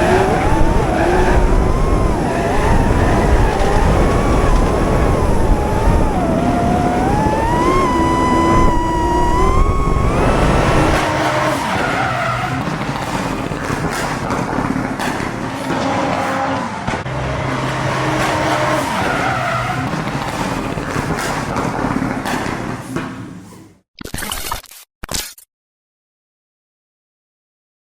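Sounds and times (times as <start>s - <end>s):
car engines running hard: 0.0s - 22.4s
tyres skidding: 0.0s - 23.5s.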